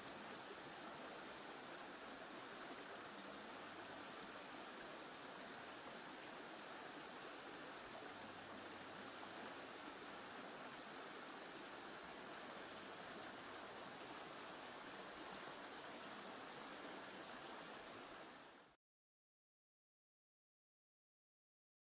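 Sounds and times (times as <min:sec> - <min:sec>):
stream rushing over rocks: 0:00.0 - 0:18.8.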